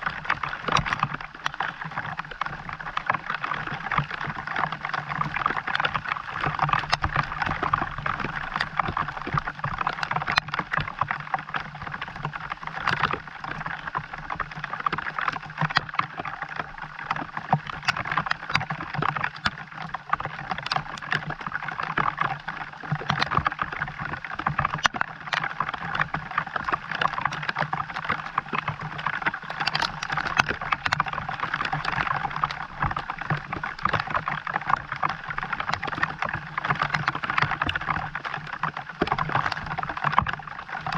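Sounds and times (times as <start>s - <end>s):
raindrops striking close by: 0.0s - 40.9s.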